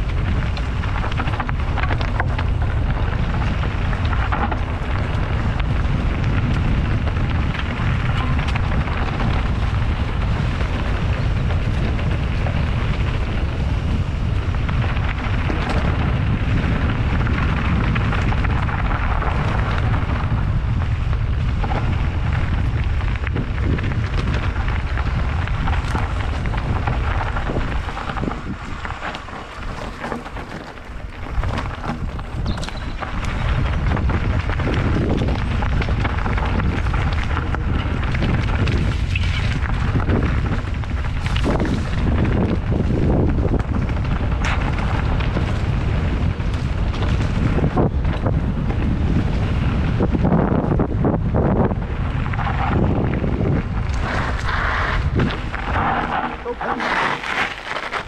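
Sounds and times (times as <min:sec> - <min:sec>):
bike clicks and rattles: 0:00.0 - 0:58.0
bike tyres rolling on dirt: 0:00.0 - 0:58.0
wind buffeting a camera: 0:00.0 - 0:58.0.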